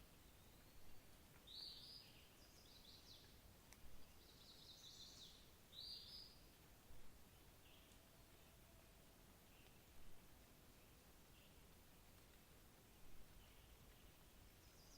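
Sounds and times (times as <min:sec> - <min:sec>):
background hiss: 0:00.0 - 0:14.9
birds singing faintly: 0:00.0 - 0:14.9.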